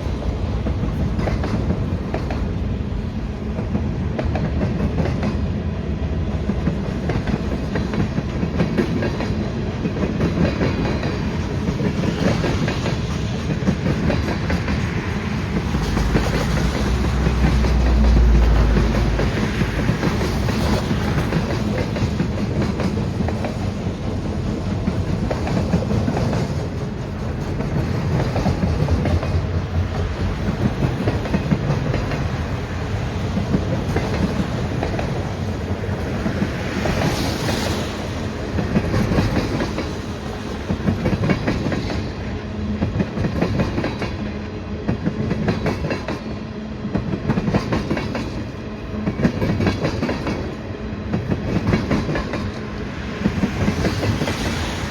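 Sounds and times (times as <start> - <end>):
train wheels clattering over rails: 0.0 - 54.9.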